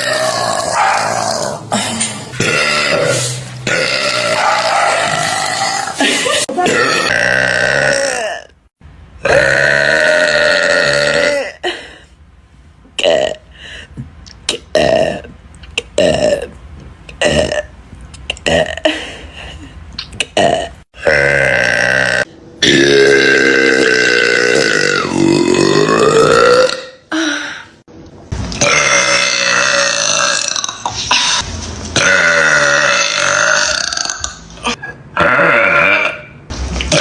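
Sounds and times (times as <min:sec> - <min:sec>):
woman burping loudly: 0:00.0 - 0:08.6, 0:09.2 - 0:11.8, 0:13.0 - 0:13.4, 0:14.5 - 0:16.6, 0:17.2 - 0:17.7, 0:18.3 - 0:19.1, 0:20.2 - 0:27.7, 0:28.6 - 0:31.4, 0:32.0 - 0:37.0.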